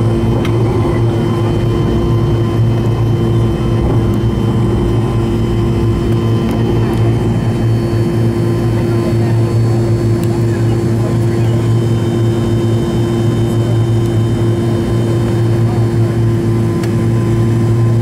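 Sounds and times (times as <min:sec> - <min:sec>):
turboprop engines droning in cabin: 0:00.0 - 0:18.0.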